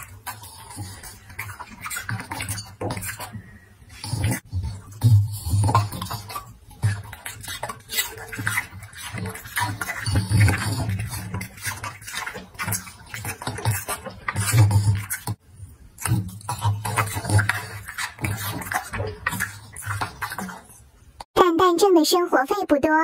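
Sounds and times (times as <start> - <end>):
dog chewing and crunching fruit: 0.0 - 21.3.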